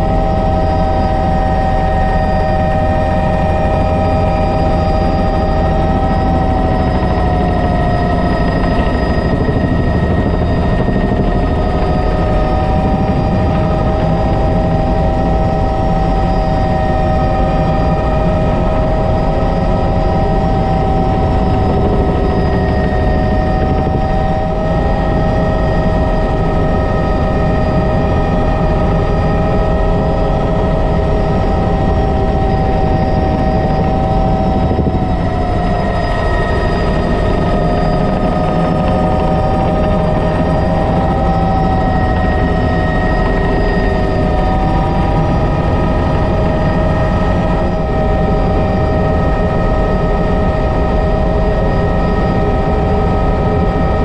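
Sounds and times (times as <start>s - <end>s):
helicopter engine and rotors rumbling: 0.0s - 54.0s
turbine whine: 0.0s - 54.0s.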